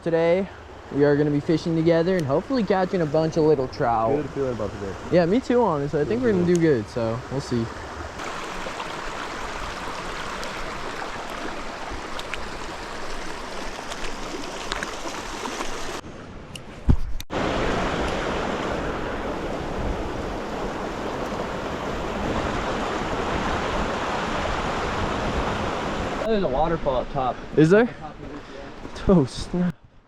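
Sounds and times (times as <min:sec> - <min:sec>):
creek water rushing over rocks: 0:00.5 - 0:16.0, 0:17.4 - 0:26.3.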